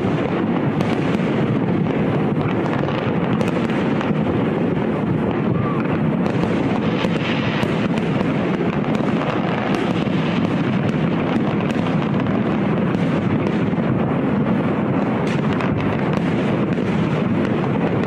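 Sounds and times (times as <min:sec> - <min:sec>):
fireworks barrage rumble: 0:00.0 - 0:18.0
fireworks crackles and pops: 0:00.0 - 0:18.0.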